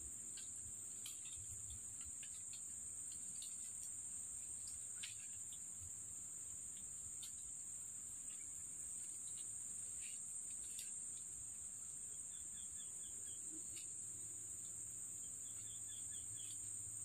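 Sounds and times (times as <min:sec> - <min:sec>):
insects droning: 0:00.0 - 0:17.0
quick insect chirps: 0:00.0 - 0:17.0.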